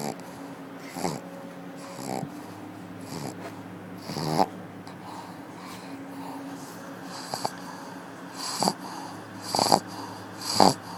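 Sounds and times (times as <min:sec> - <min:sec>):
dog snoring: 0:00.0 - 0:10.9.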